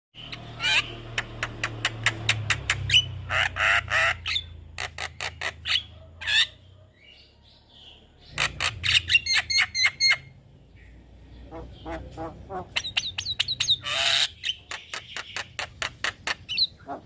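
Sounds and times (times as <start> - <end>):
bird singing with clicks and squawks: 0.1 - 17.0.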